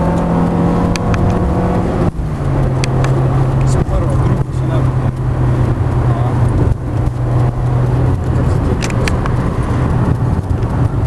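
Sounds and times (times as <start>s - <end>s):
car engine hum from cabin: 0.0s - 11.0s.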